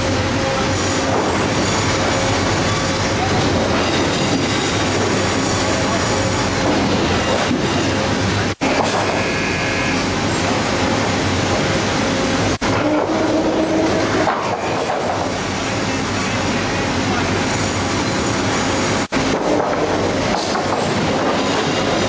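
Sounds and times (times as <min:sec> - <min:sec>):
conveyors and mill machinery running: 0:00.0 - 0:22.0.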